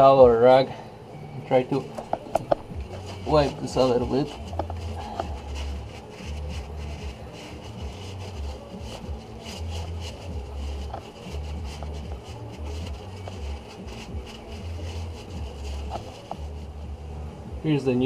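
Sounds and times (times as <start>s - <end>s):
paper towel rubbing: 2.0s - 17.0s.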